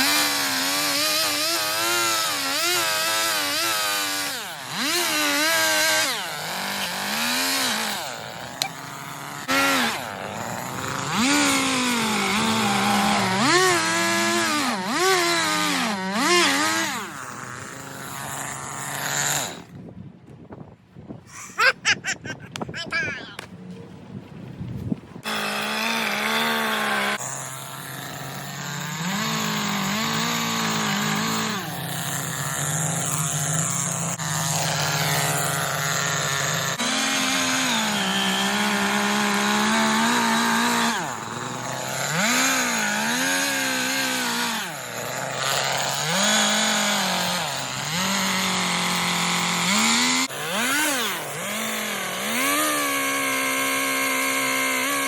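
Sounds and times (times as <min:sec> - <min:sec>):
chainsaw cutting wood: 0:00.0 - 0:19.9, 0:21.4 - 0:23.5, 0:25.2 - 0:55.0.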